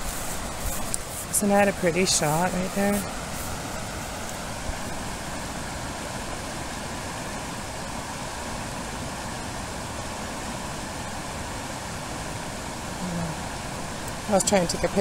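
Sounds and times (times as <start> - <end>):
river water rushing over falls: 0.0 - 15.0.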